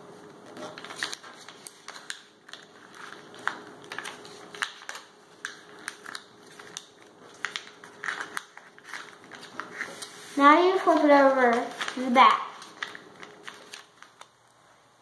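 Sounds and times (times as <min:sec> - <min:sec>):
paper folding and crinkling: 0:00.2 - 0:14.4.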